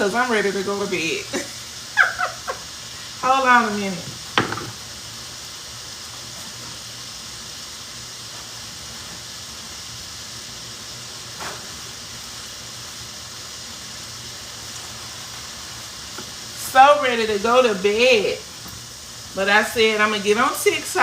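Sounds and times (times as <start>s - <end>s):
vegetables sizzling in a skillet: 0.0s - 21.0s.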